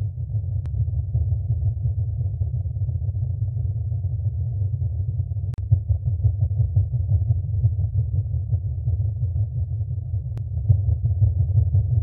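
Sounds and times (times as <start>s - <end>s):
deep rumbling drone: 0.0s - 12.0s.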